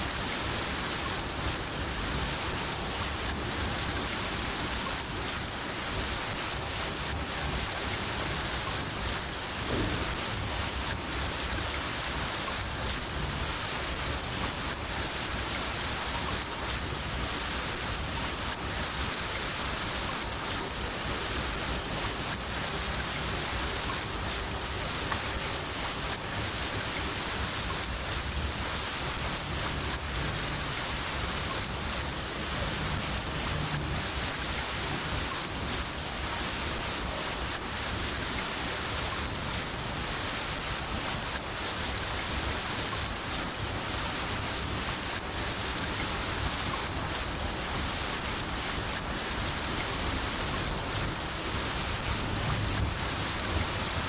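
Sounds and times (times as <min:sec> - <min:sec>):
cricket chirping: 0:00.0 - 0:51.4, 0:52.2 - 0:54.0
rain hiss: 0:00.0 - 0:54.0.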